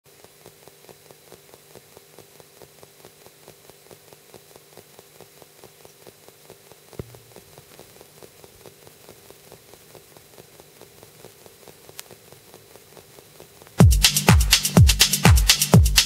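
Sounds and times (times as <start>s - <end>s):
vinyl record crackle and hiss: 0.0s - 16.0s
vinyl record pop: 0.1s - 16.0s.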